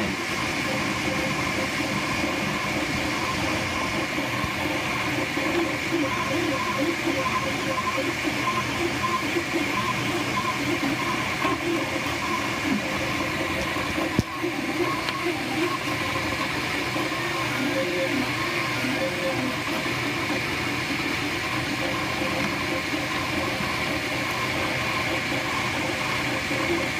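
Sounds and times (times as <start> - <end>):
printer stepper motors whining: 0.0 - 26.9.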